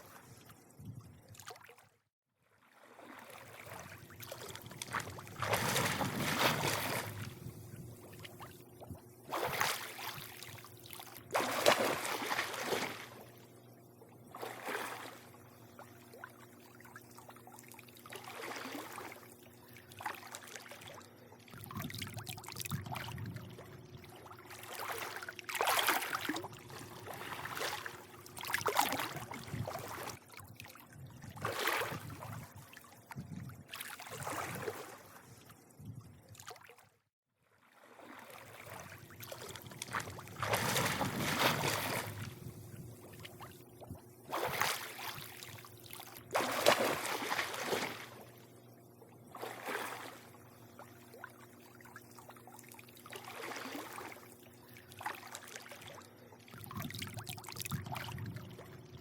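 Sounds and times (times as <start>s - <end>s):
pool water lapping and sloshing: 0.0s - 59.0s
steady low hum: 3.6s - 36.3s, 38.4s - 59.0s.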